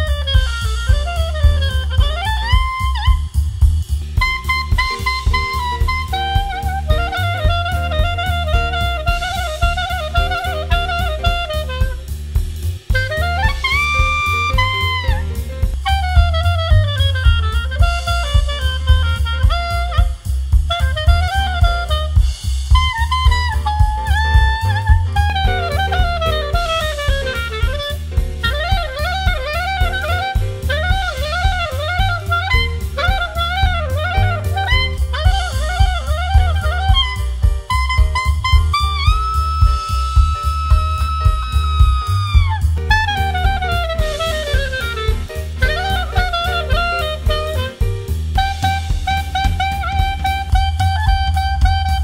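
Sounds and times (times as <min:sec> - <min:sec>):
instrumental swing jazz: 0:00.0 - 0:52.0.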